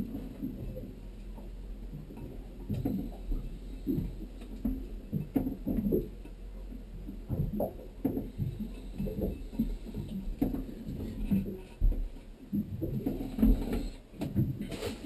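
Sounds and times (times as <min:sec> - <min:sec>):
low thumps and knocks: 0:00.0 - 0:15.0.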